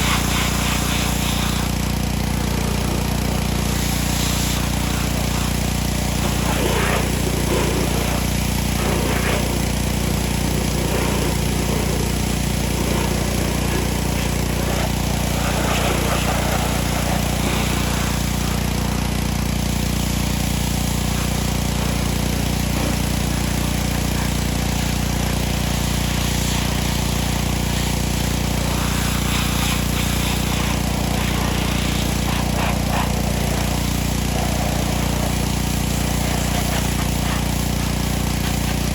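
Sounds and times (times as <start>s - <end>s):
pressure washer engine running: 0.0s - 38.9s
water spray hissing: 0.0s - 38.9s.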